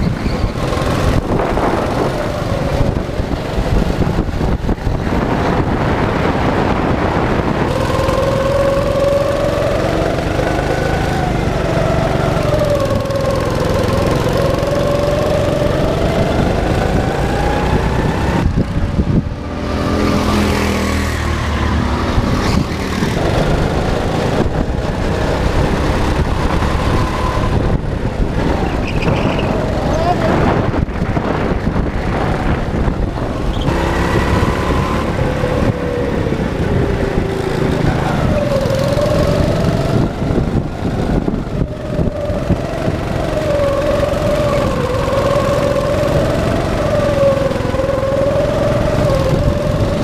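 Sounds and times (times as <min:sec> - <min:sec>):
go-kart engine revving: 0:00.0 - 0:50.0.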